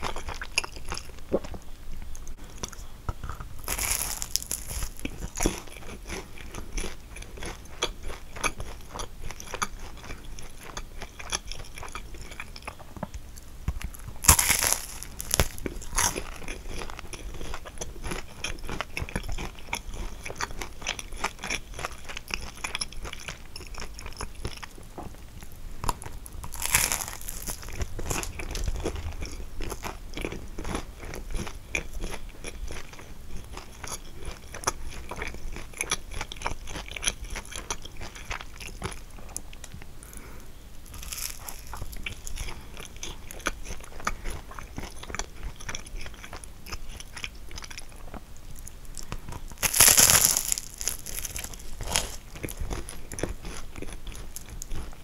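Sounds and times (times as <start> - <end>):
crispy pastry crunching while chewing: 0.0 - 55.0.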